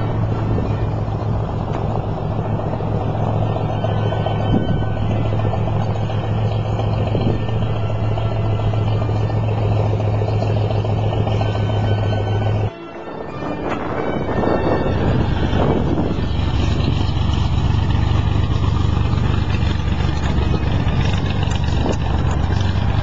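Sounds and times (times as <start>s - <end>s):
propeller airplane engine droning: 0.0s - 23.0s.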